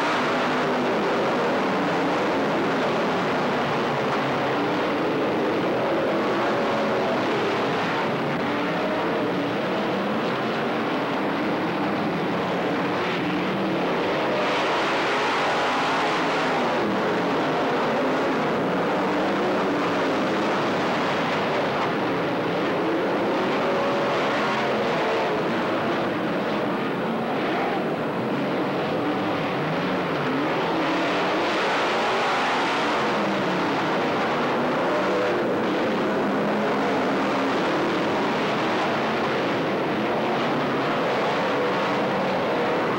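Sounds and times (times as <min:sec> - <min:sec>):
race car engines: 0:00.0 - 0:42.9.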